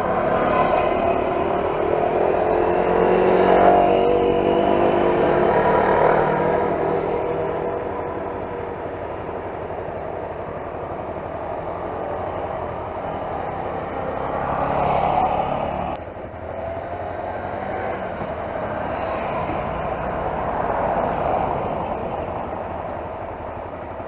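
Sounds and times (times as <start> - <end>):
motorcycle engine drone: 0.0 - 24.0.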